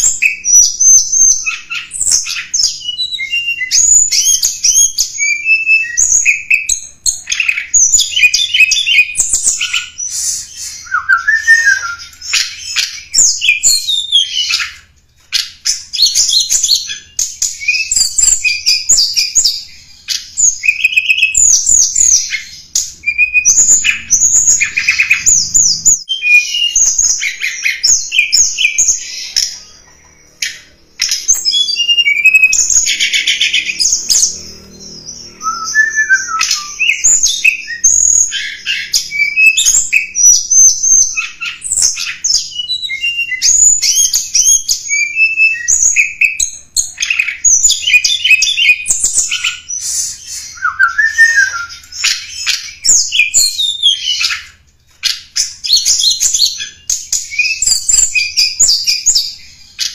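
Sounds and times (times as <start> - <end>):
bird chirping and twittering: 0.0 - 59.9.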